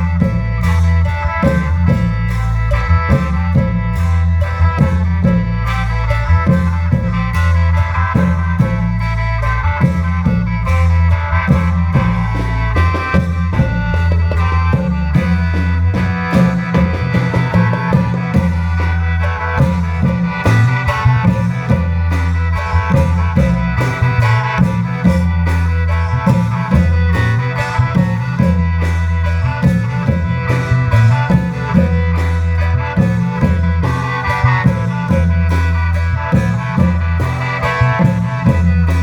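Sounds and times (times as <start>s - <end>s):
bass line: 0.0s - 39.0s
long drums and cymbals: 0.0s - 39.0s
reed instrument melody: 0.0s - 39.0s.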